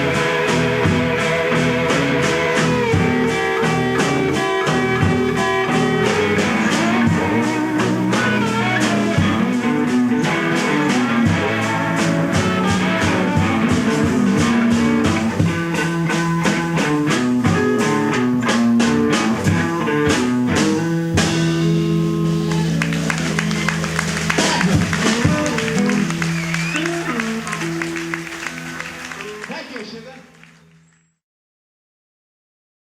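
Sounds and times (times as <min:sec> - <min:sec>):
drum kit: 0:00.0 - 0:30.4
electric guitars: 0:00.0 - 0:31.0.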